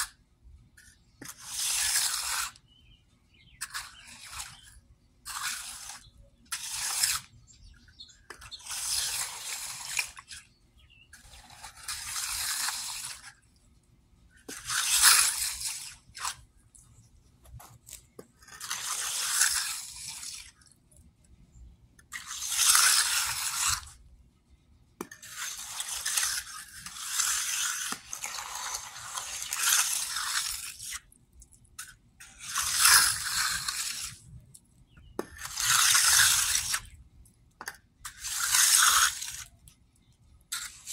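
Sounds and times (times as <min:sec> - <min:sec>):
trowel scraping wet concrete: 0:00.0 - 0:00.2, 0:00.8 - 0:13.6, 0:14.4 - 0:20.8, 0:22.0 - 0:24.0, 0:25.0 - 0:37.0, 0:37.6 - 0:40.9.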